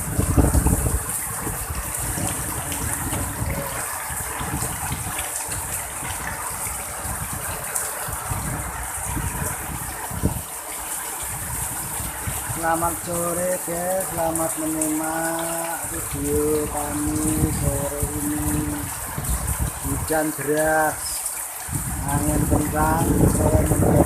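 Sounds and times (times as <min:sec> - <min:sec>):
strong wind gusting: 0:00.0 - 0:21.0, 0:21.6 - 0:24.0
heavy rain pouring: 0:00.0 - 0:24.0.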